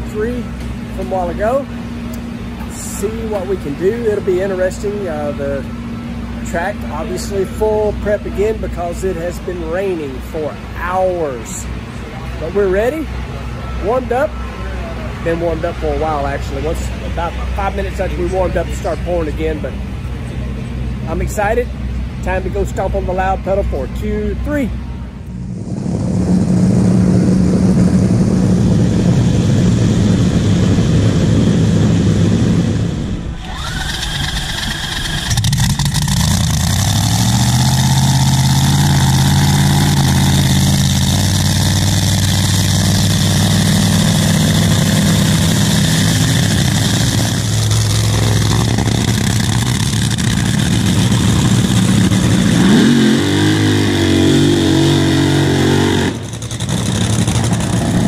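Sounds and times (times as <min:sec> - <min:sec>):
dragster engines idling loudly: 0:00.0 - 0:53.8, 0:55.2 - 0:58.0.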